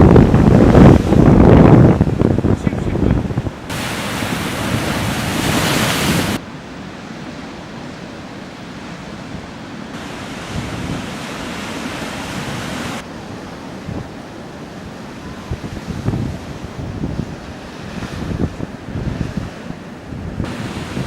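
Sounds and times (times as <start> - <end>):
wind buffeting microphone: 0.0 - 7.7, 8.8 - 21.0
waves breaking: 0.0 - 21.0.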